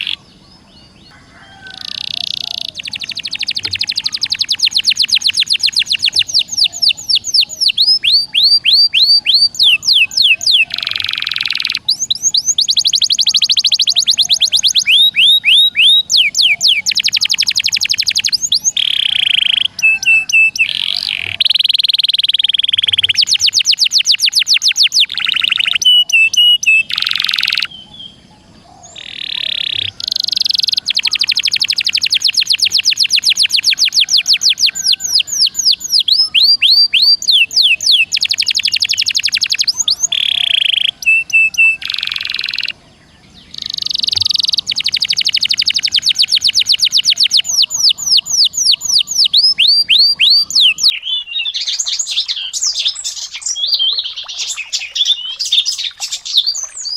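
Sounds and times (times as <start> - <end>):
songbird trilling: 0.0 - 56.9.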